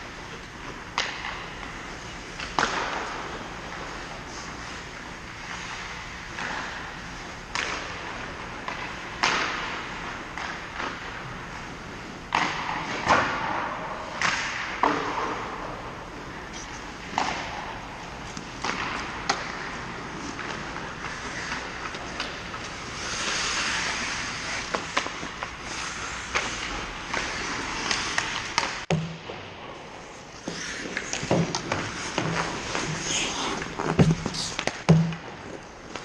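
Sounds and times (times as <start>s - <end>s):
hockey sticks and puck clacking: 0.2s - 16.0s, 17.0s - 36.0s.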